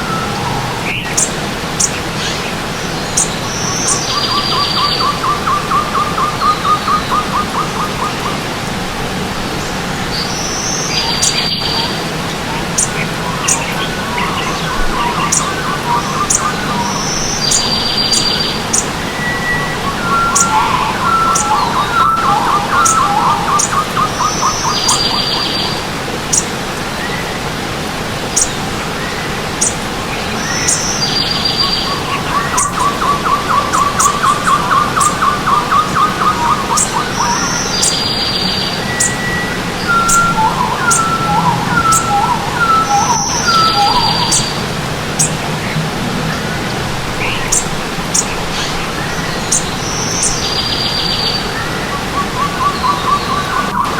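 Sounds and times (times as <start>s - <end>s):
birds chirping and whistling: 0.0s - 8.5s, 9.6s - 27.5s, 28.2s - 53.9s
running stream water: 0.0s - 53.9s.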